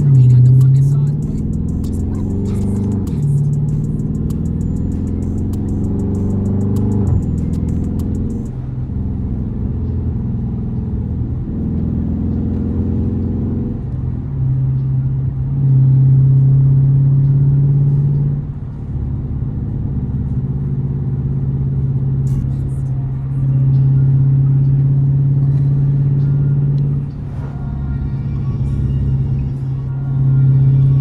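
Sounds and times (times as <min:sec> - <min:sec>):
car engine and exhaust driving: 0:00.0 - 0:31.0.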